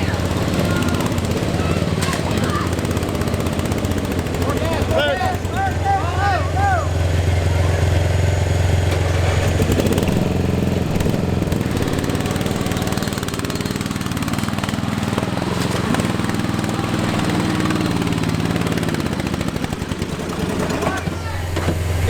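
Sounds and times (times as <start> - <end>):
lawn tractor engine revving: 0.0 - 22.0.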